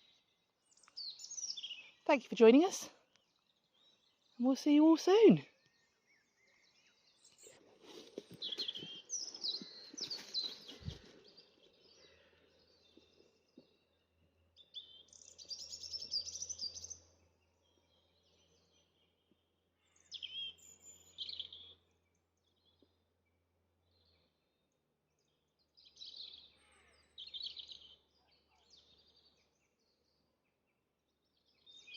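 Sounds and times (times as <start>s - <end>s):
songbirds warbling and trilling: 0.0s - 31.9s.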